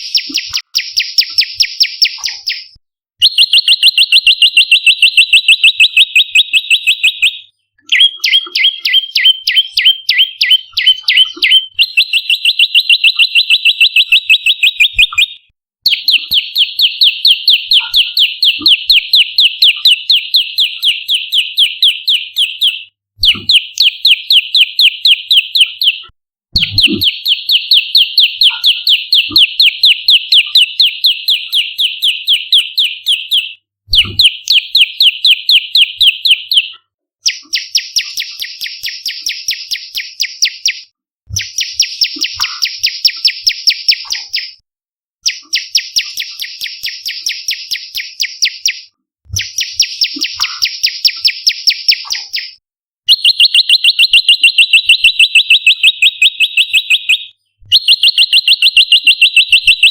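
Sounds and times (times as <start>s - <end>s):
bird calling rapid sharp notes: 0.0s - 44.6s, 45.2s - 59.9s.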